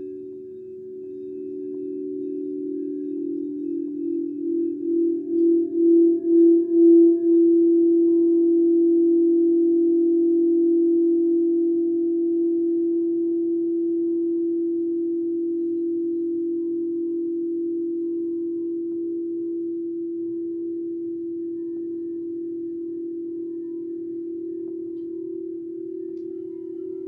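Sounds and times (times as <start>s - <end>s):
singing bowl ringing: 0.0s - 27.0s.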